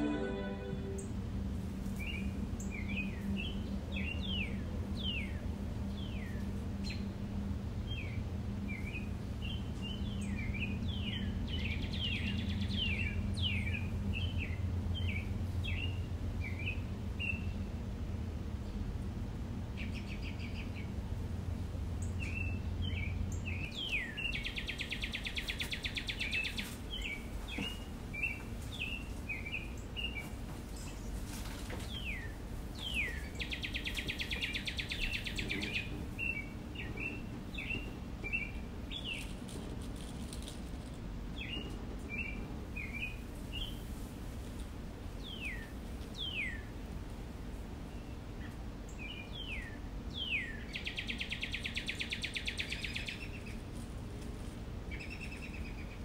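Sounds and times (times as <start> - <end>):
steady low hum: 0.0 - 56.0
small birds chirping: 1.9 - 17.8, 18.6 - 56.0.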